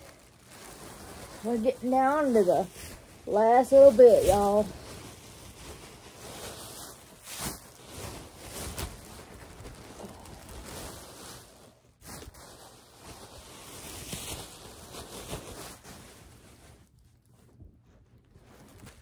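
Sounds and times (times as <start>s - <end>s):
clothes rustling: 0.0s - 19.0s.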